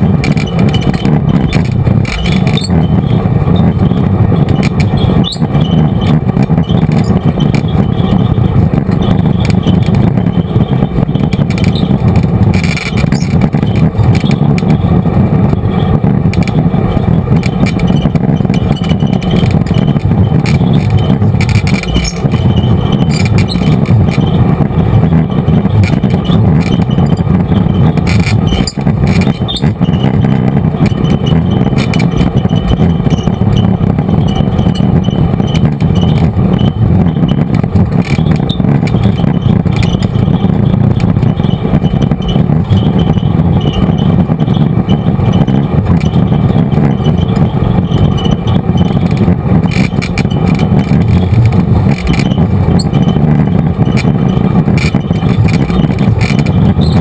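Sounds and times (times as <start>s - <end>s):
rattles and knocks over bumps: 0.0s - 57.0s
utv engine running under load: 0.0s - 57.0s.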